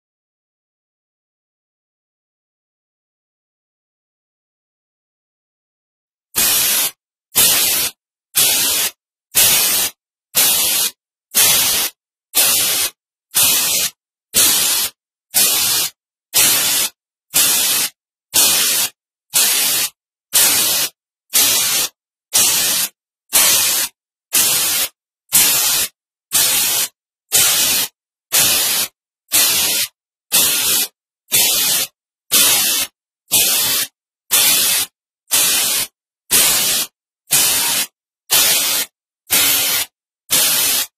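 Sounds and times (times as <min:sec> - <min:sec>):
static-like hiss bursts: 0:06.4 - 0:40.9.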